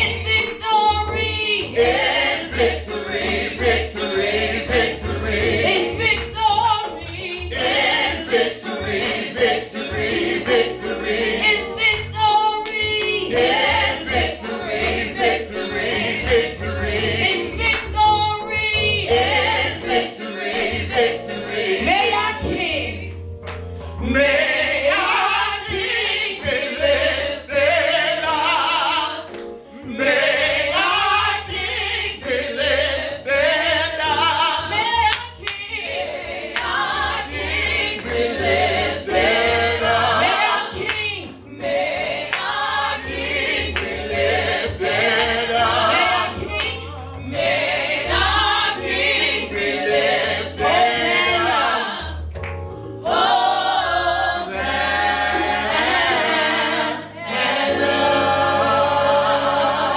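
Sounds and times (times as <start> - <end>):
man and woman singing gospel: 0.0 - 23.1, 23.8 - 52.0
low musical accompaniment: 0.0 - 59.9.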